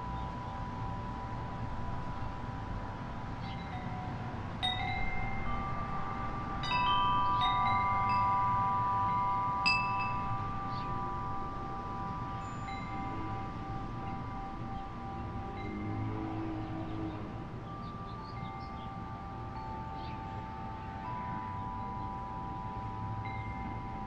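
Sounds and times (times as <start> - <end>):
wind chime ringing: 0.0 - 24.0.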